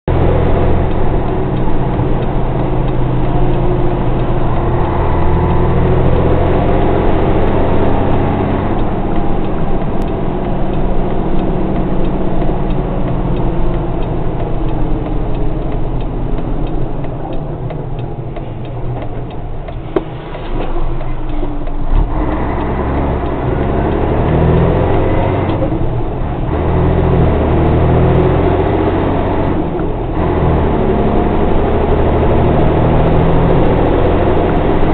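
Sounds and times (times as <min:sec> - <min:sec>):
truck diesel engine running: 0:00.1 - 0:34.9.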